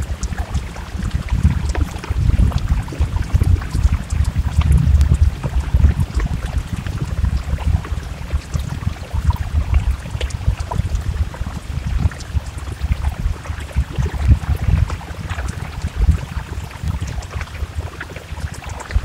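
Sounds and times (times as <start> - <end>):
dense low rumble: 0.0 - 19.0
drops ticking: 0.0 - 19.0
rain falling: 0.0 - 19.0.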